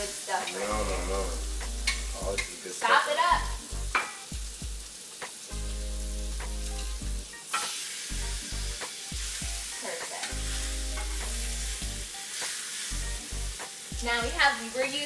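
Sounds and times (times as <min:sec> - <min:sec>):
chicken sizzling on a griddle: 0:00.0 - 0:15.0.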